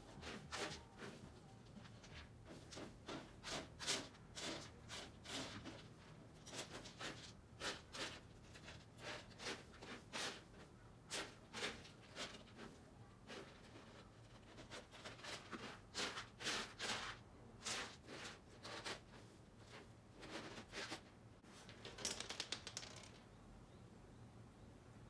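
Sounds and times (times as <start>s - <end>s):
cat scratching litter: 0.0s - 23.0s.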